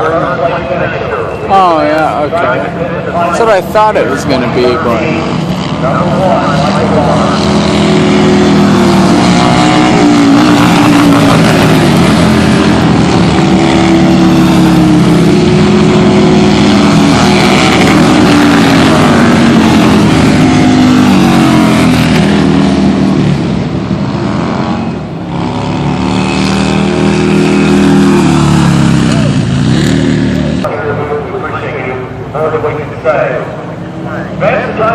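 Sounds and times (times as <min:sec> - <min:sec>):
racing motorcycle engines revving: 0:00.0 - 0:34.9.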